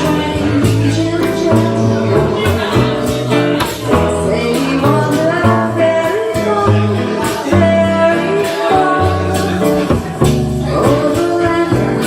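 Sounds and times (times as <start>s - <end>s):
bass: 0.0s - 12.0s
guitar: 0.0s - 12.0s
woman singing: 0.0s - 12.0s.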